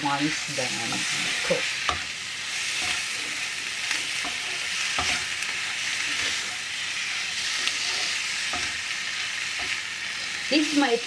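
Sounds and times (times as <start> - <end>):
chicken sizzling in frying pan: 0.0 - 11.0
spatula scraping and knocking pan: 0.2 - 10.5.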